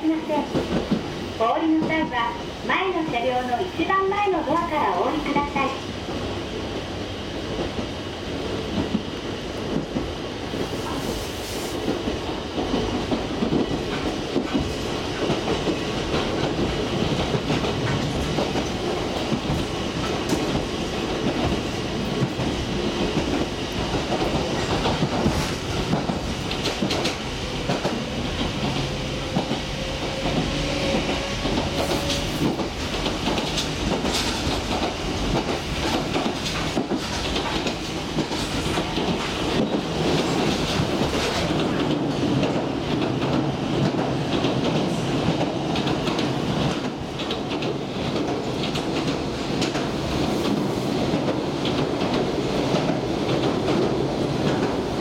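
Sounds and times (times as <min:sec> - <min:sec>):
clickety-clack of rail joints: 0:00.0 - 0:55.0
train wheels rumbling on rail: 0:00.0 - 0:55.0.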